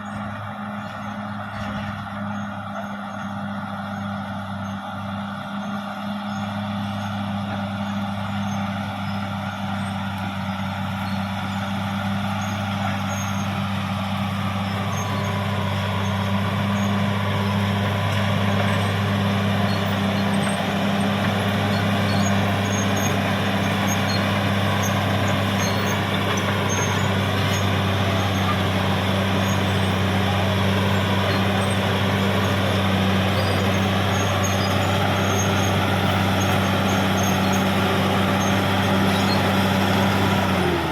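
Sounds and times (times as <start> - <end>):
bulldozer diesel engine drone: 0.0 - 40.9.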